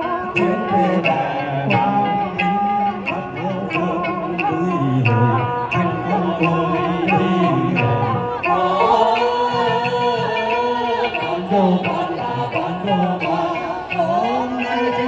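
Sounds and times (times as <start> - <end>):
folk singing with instruments: 0.0 - 15.0.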